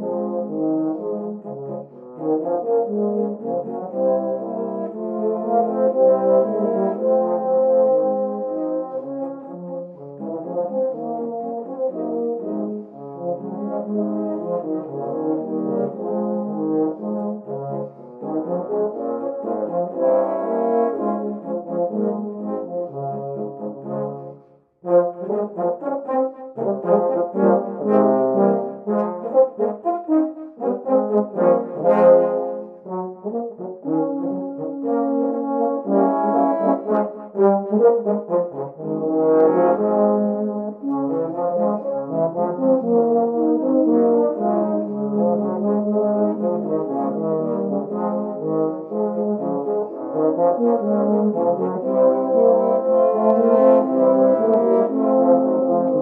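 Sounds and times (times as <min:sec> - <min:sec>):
tenor horns playing a march: 0:00.0 - 0:56.0.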